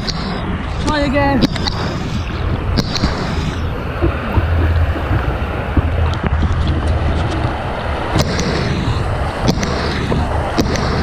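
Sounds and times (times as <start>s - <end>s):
rushing white water: 0.0s - 11.0s
wind buffeting a microphone: 0.0s - 11.0s.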